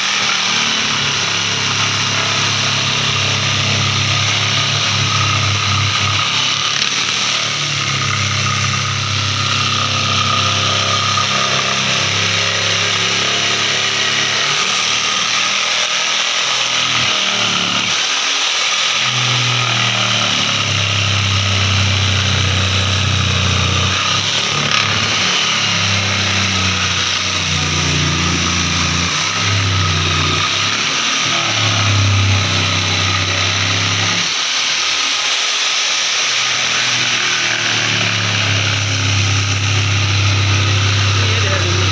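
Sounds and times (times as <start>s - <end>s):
electric jigsaw cutting plywood: 0.0s - 41.9s.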